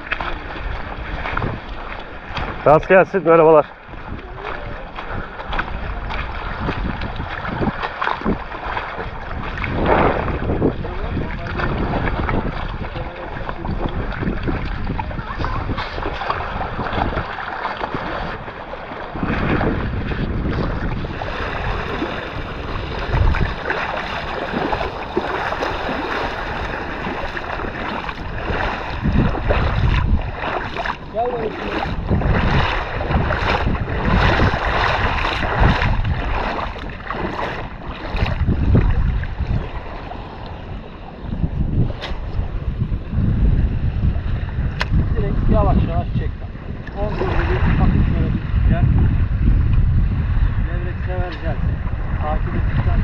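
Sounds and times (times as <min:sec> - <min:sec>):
small waves lapping at shore: 0:00.0 - 0:53.0
wind buffeting microphone: 0:00.0 - 0:53.0.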